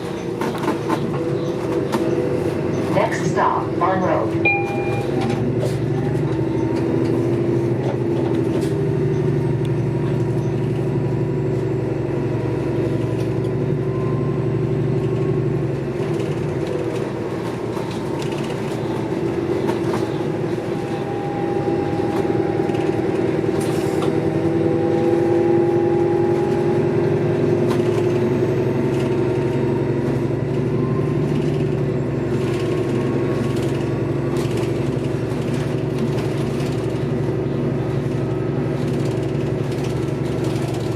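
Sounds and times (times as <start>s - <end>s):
bus drivetrain hum and whine: 0.0s - 40.9s.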